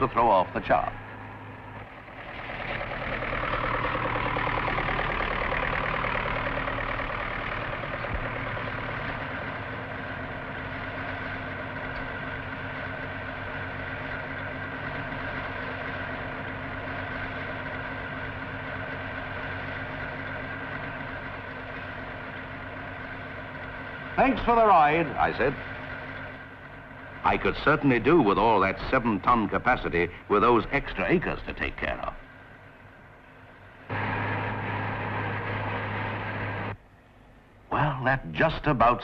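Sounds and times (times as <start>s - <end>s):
combine harvester engine droning: 0.0s - 39.0s.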